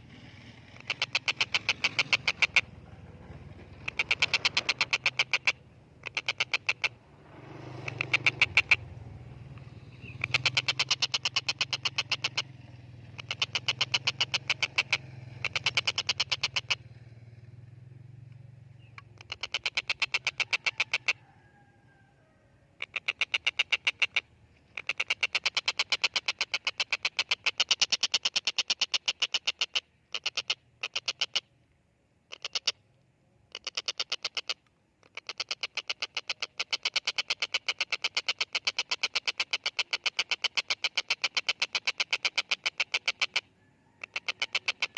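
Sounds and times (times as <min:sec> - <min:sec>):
kingfisher harsh chattering: 0:00.2 - 0:16.8, 0:19.0 - 0:21.2, 0:22.8 - 0:31.5, 0:33.5 - 0:43.4.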